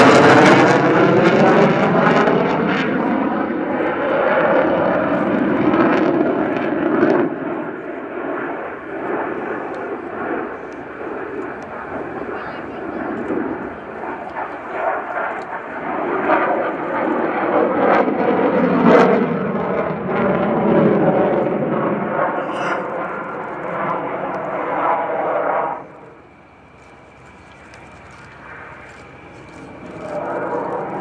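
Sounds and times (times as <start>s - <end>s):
jet roar overhead: 0.0s - 31.0s.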